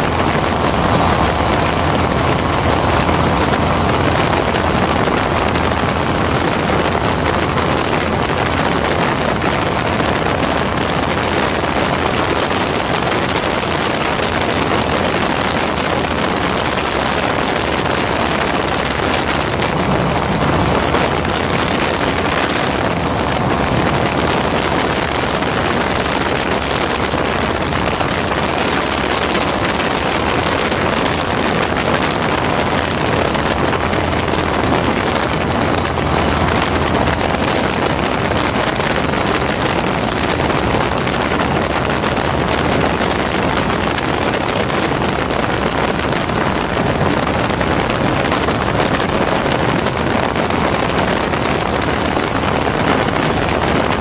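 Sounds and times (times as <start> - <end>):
two-stroke engine running: 0.0 - 54.0
wind rush over microphone: 0.0 - 54.0.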